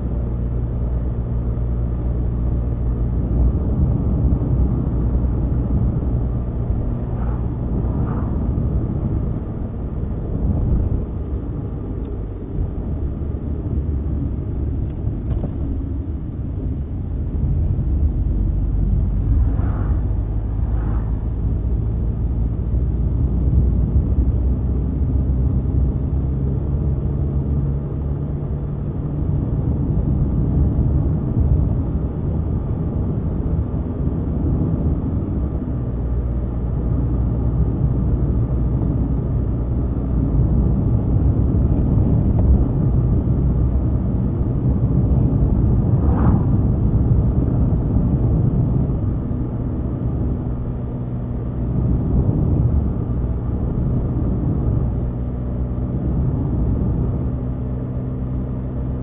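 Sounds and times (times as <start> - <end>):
car engine and tyre drone: 0.0 - 59.0.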